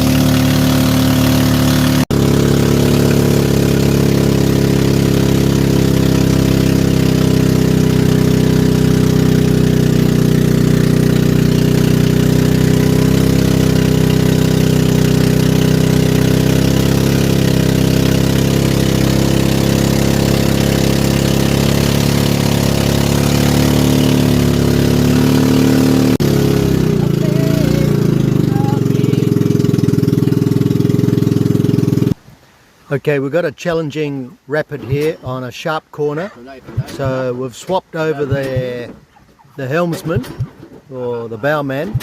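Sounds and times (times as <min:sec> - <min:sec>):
boat engine running: 0:00.0 - 0:32.2, 0:36.3 - 0:42.0.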